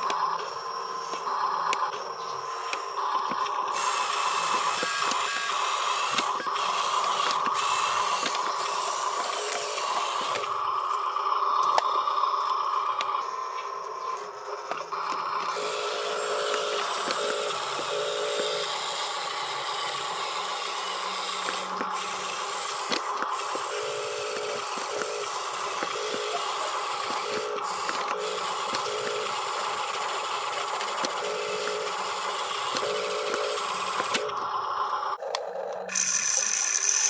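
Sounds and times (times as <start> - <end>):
electric motor and gears whining: 0.0 - 37.0.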